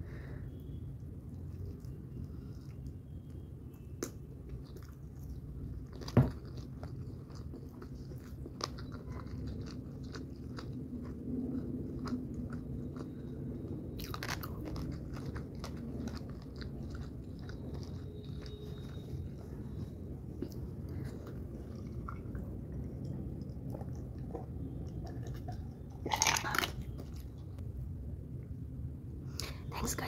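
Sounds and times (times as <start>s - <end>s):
person chewing food: 0.5s - 27.7s.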